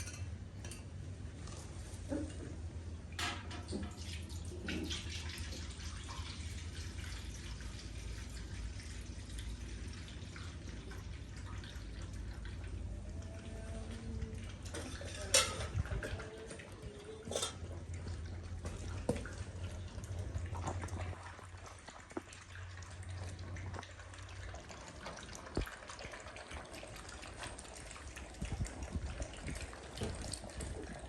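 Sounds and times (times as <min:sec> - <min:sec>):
puppies lapping milk: 0:04.3 - 0:31.0.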